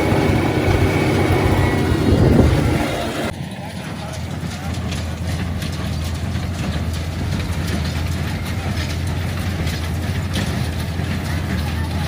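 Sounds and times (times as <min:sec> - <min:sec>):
baler mechanical clatter: 0:00.0 - 0:12.0
tractor engine droning: 0:00.0 - 0:12.0.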